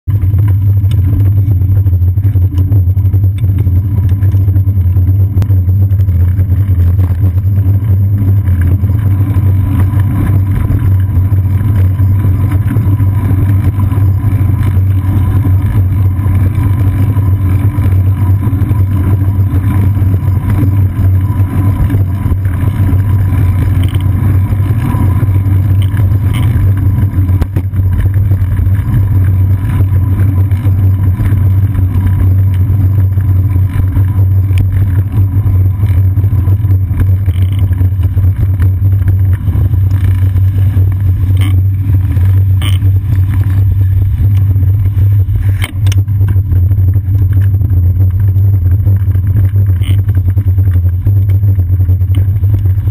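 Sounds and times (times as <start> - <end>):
road vibration rumble: 0.0 - 52.9.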